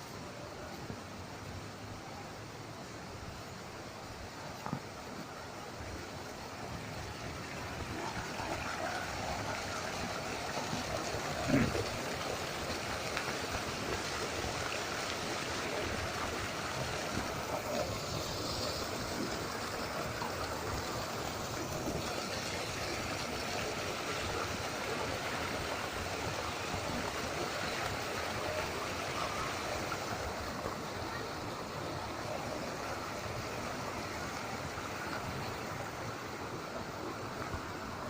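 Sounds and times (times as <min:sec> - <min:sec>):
waterfall pouring and splashing: 0:00.0 - 0:38.0.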